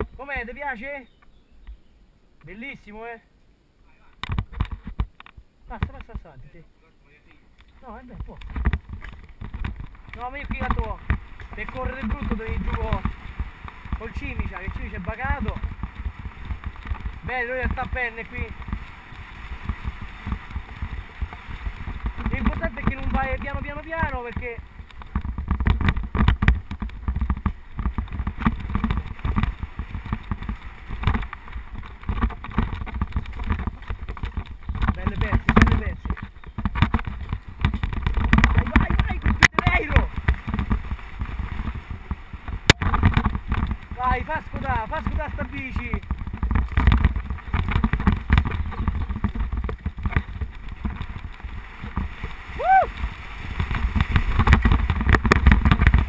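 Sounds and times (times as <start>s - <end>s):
wind rumbling on microphone: 3.9s - 6.6s, 7.4s - 56.0s
bike rattling over bumps: 7.7s - 56.0s.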